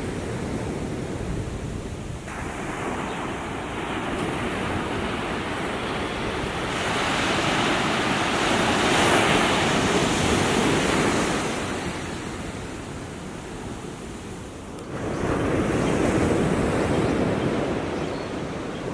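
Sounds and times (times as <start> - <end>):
small waves breaking on shore: 0.0 - 18.9.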